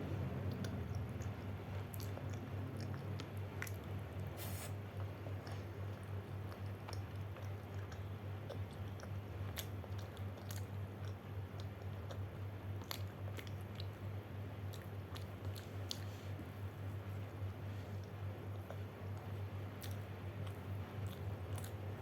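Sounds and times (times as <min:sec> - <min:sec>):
steady low hum: 0:00.0 - 0:22.0
person chewing food: 0:00.2 - 0:22.0.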